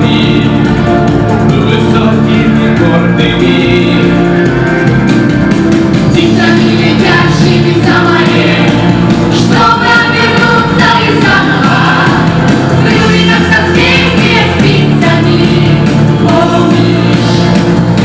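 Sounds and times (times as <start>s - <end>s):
group singing with instruments: 0.0s - 18.0s.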